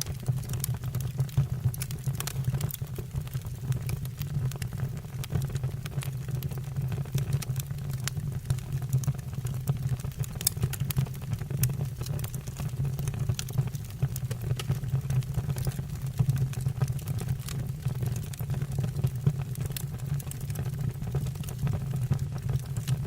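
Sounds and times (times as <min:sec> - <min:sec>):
fire rumbling: 0:00.0 - 0:23.0
logs crackling and popping: 0:00.0 - 0:23.0.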